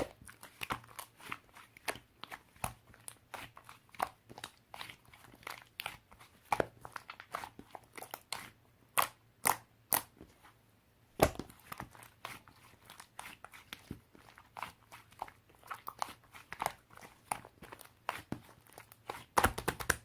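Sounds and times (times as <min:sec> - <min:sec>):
crunchy food being chewed: 0:00.0 - 0:10.1, 0:11.4 - 0:19.6.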